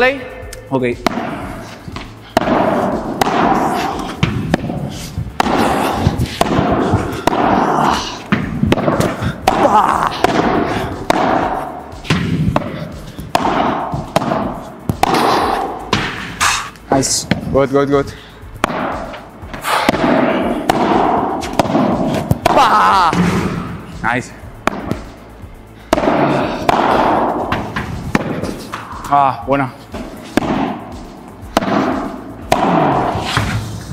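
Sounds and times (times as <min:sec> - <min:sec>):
padel racket hitting ball: 0:01.0 - 0:16.4, 0:18.6 - 0:23.8, 0:24.4 - 0:25.3, 0:25.9 - 0:29.0, 0:29.9 - 0:33.5.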